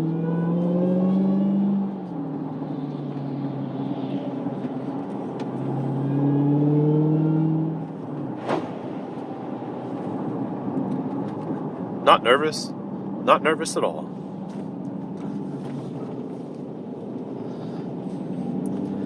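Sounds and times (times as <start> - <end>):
car engine pulling under throttle: 0.0 - 12.0, 14.1 - 19.0.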